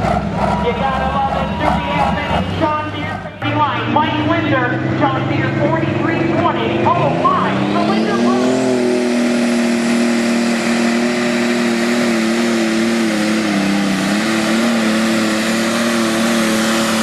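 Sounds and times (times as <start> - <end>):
tractor diesel engine at full power: 0.0 - 17.0.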